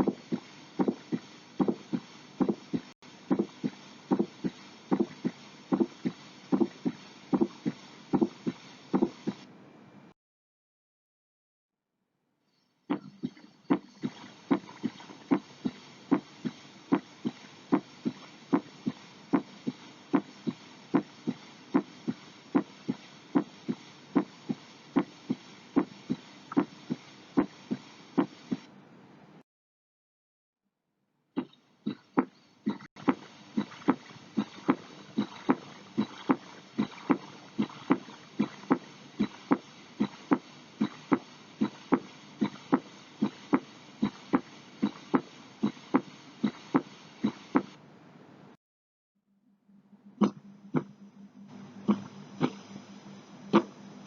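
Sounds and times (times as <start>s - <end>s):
heartbeat through stethoscope: 0.0s - 9.5s, 12.9s - 28.7s, 31.4s - 47.8s, 50.2s - 53.8s
steady hiss: 0.0s - 9.5s, 12.9s - 28.7s, 31.9s - 47.8s, 51.5s - 54.0s.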